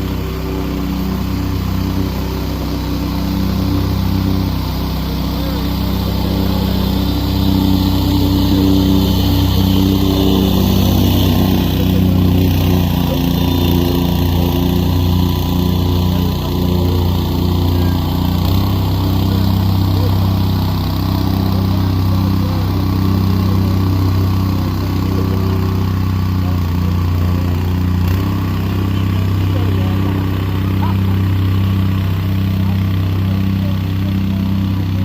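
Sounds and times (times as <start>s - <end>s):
gasoline engine running: 0.0s - 35.0s.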